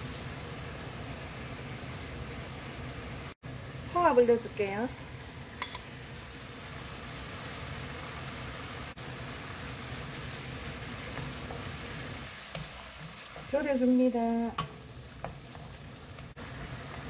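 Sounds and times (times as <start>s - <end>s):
sauce boiling and sizzling in pan: 0.0s - 17.0s.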